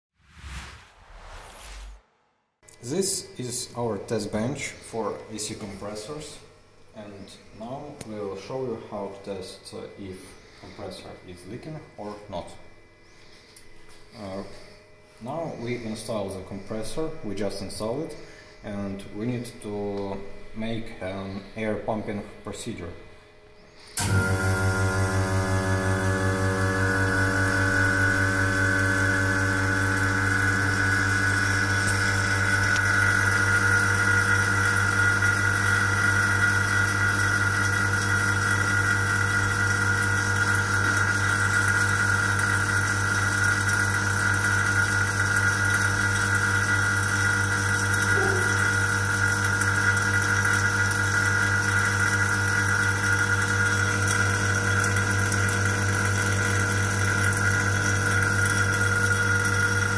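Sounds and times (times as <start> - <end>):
vacuum pump hum and whine: 2.6 - 59.9.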